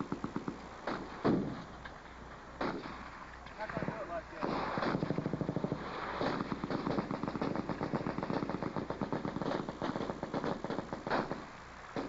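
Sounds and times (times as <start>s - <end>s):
machine guns firing: 0.0s - 1.6s, 3.6s - 12.0s.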